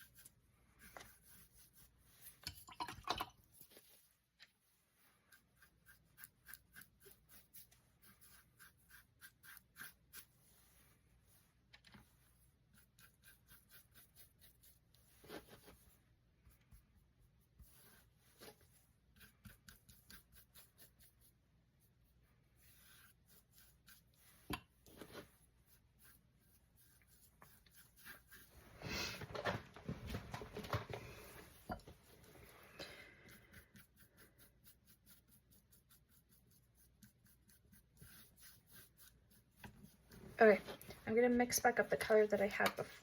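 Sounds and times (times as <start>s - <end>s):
paintbrush strokes on canvas: 0.0s - 2.6s, 3.5s - 43.0s.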